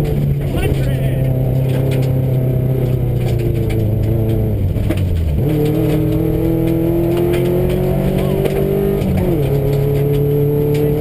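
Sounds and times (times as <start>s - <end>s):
gravel clicks under car: 0.0s - 11.0s
rally car engine revving: 0.0s - 11.0s.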